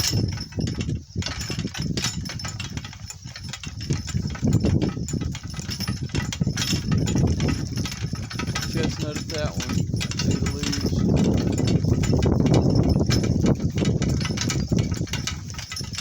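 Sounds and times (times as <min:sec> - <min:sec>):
cart clattering over bumpy ground: 0:00.0 - 0:16.0.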